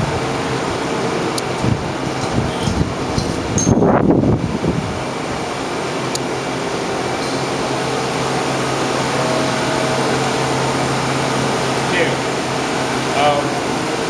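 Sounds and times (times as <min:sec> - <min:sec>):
machinery hum: 0:00.0 - 0:14.0
rushing air: 0:00.0 - 0:14.0.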